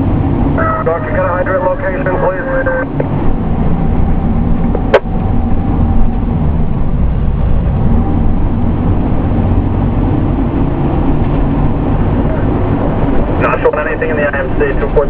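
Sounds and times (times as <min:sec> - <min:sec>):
diesel engine running in cab: 0:00.0 - 0:15.0.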